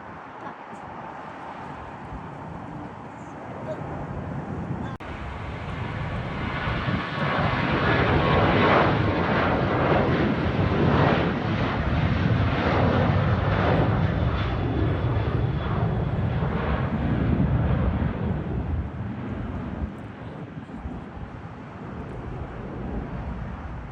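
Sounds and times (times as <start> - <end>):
airliner engine passing: 0.0 - 23.9.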